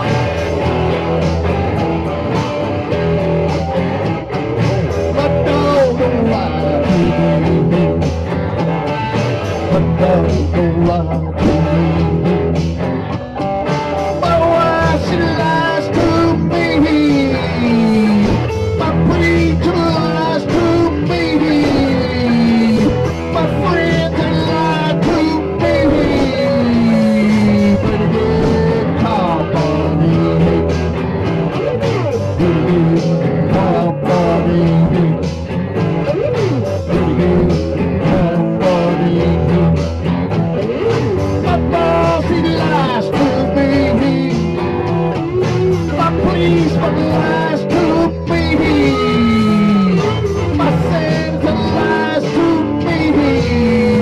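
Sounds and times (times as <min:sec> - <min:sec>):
bass and drums: 0:00.0 - 0:54.0
sliding lead guitar: 0:00.0 - 0:54.0.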